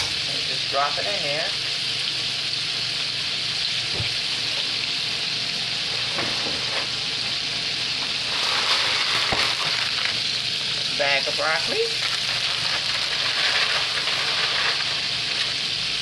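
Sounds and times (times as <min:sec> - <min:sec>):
chicken frying in hot oil: 0:00.0 - 0:16.0.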